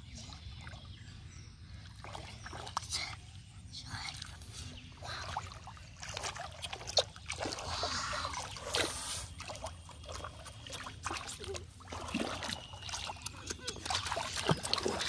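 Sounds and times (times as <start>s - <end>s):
muddy water splashing: 0.0s - 3.3s, 3.9s - 15.0s.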